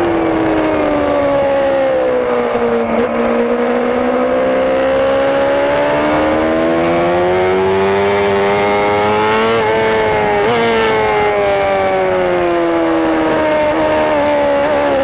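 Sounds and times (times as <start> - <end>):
motorcycle engine at high revs: 0.0 - 15.0
wind rush: 0.0 - 15.0.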